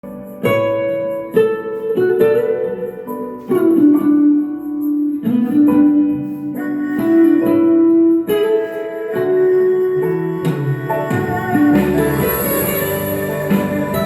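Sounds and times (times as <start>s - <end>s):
guitar chords ringing: 0.0s - 14.0s.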